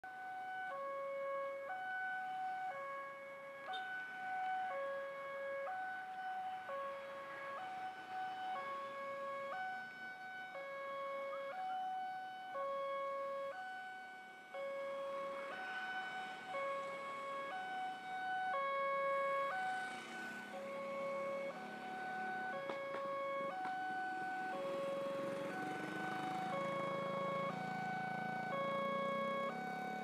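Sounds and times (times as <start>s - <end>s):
level crossing two-tone alarm: 3.7s - 4.9s, 5.7s - 30.0s.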